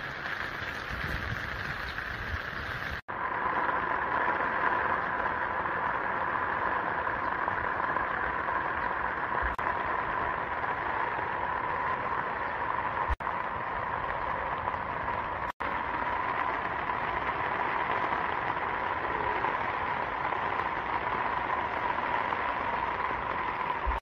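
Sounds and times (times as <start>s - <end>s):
rain on plants and soil: 0.0s - 24.0s.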